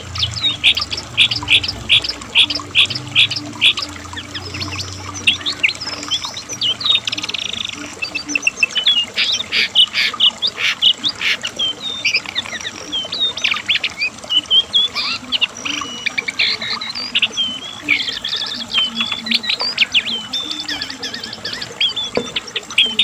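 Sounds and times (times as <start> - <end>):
bird singing whistled notes and trills: 0.0 - 23.0.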